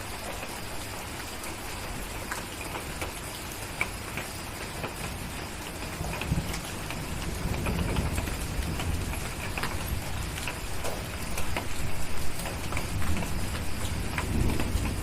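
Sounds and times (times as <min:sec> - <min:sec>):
steady rain: 0:00.0 - 0:15.0
wood fire crackling and popping: 0:01.8 - 0:15.0.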